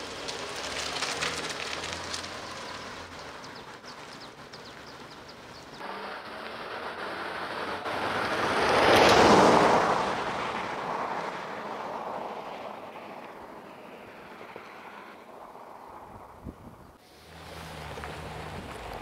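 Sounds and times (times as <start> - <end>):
car passing by: 0.0 - 19.0.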